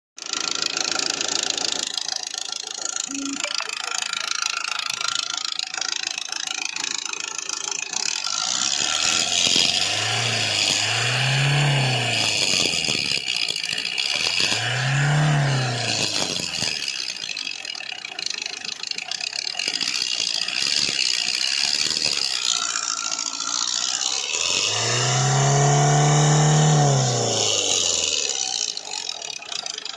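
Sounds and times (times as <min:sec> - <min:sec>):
diesel engine revving with rattle: 0:00.2 - 0:29.9.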